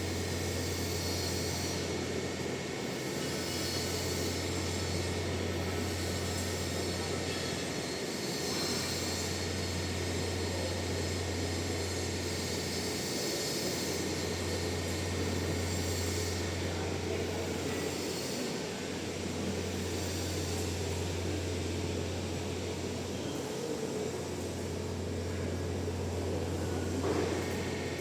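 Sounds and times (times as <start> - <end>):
metal lathe running: 0.0 - 28.0.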